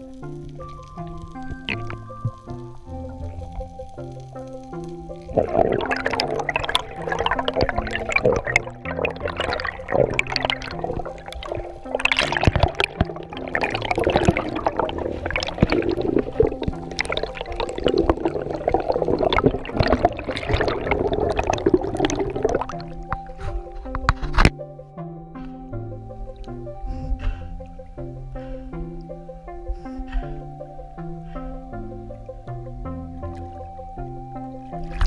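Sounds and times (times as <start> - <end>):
background music: 0.0 - 35.0
underwater bubbling and rushing water: 0.0 - 35.0.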